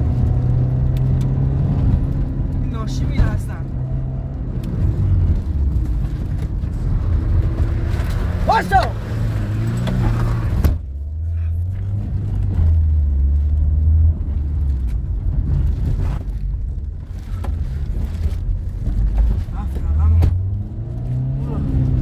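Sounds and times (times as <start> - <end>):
car engine droning in cabin: 0.0 - 22.0.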